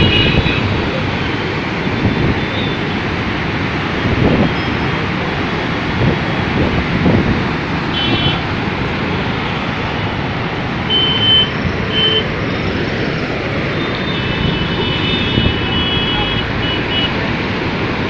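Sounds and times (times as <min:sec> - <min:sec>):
rumbling outdoor noise: 0:00.0 - 0:18.0.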